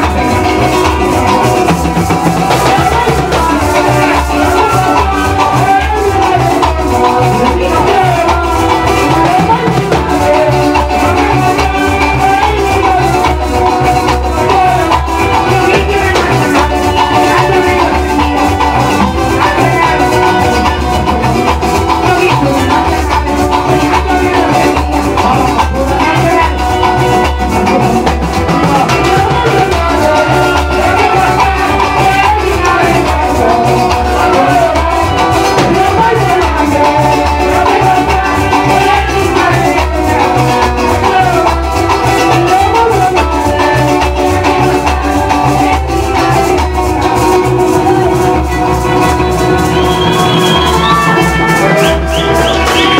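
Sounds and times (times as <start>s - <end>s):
latin string music: 0.0s - 52.9s
maracas shaking: 0.0s - 52.9s.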